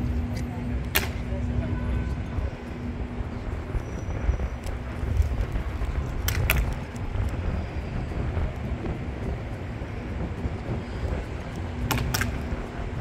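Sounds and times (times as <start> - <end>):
city traffic rumble: 0.0 - 13.0
wind on microphone: 0.0 - 13.0.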